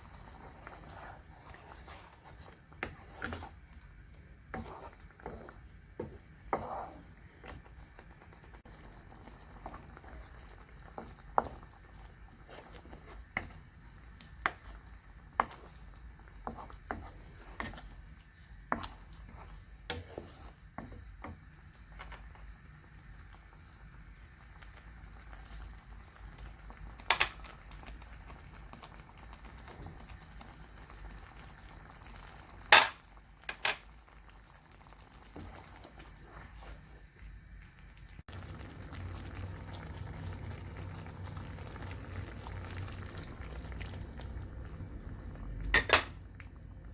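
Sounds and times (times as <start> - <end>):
food frying in a pan: 0.0 - 46.9.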